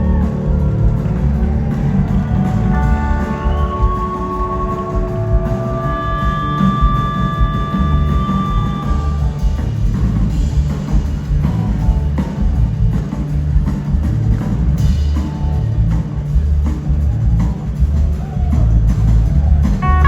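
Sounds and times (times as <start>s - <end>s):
bass: 0.0s - 20.0s
pounding drums: 0.0s - 20.0s
rock band playing: 0.0s - 20.0s.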